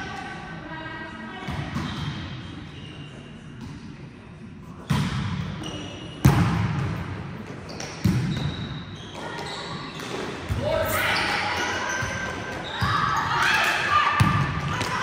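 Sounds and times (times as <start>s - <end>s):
volleyball hits echoing in hall: 1.4s - 2.8s, 3.5s - 15.0s.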